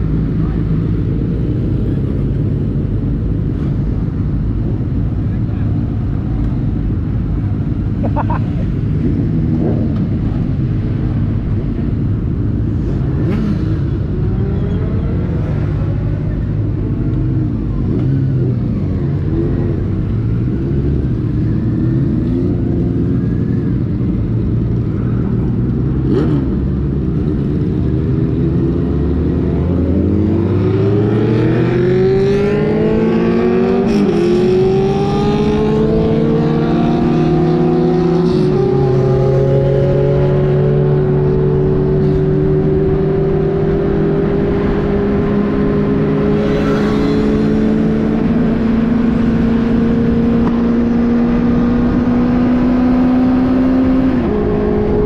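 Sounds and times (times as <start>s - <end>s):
motorcycle engine accelerating: 6.3s - 55.0s.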